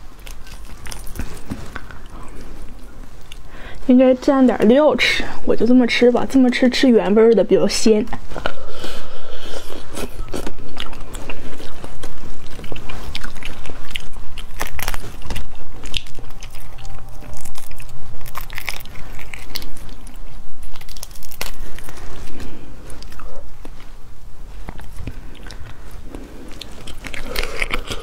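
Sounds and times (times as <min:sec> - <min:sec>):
biting and chewing: 0:00.0 - 0:03.8, 0:08.4 - 0:28.0.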